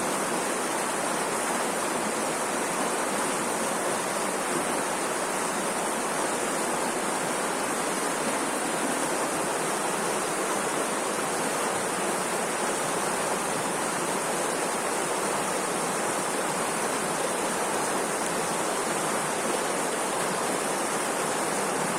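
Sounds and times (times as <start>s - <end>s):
rushing water: 0.0s - 21.9s.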